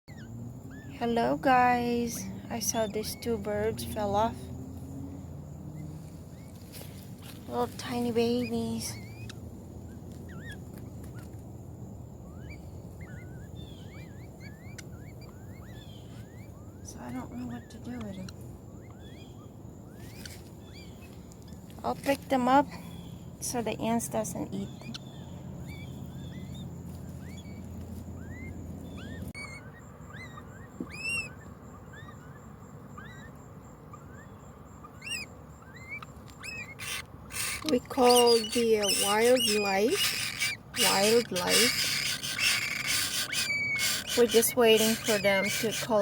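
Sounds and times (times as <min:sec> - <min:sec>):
birds chirping: 0:00.1 - 0:46.0
low background rumble: 0:00.1 - 0:46.0.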